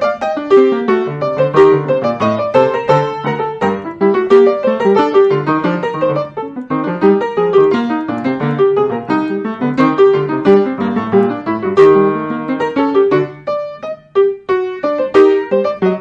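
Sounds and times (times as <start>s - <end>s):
solo piano playing: 0.0s - 16.0s.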